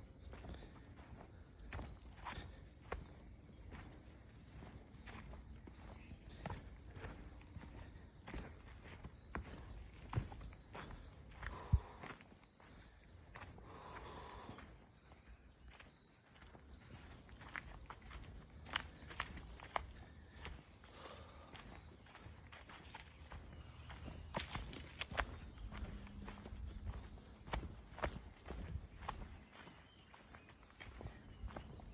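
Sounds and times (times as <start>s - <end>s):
footsteps on forest path: 0.0s - 31.9s
insect chorus: 0.0s - 31.9s.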